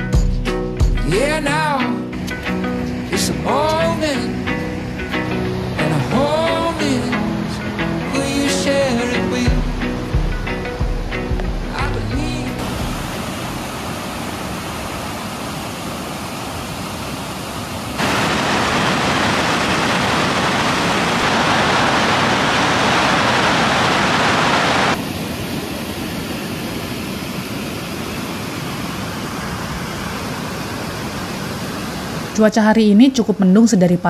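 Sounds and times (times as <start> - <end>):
stream rushing over rocks: 1.5 - 10.8, 11.7 - 32.4.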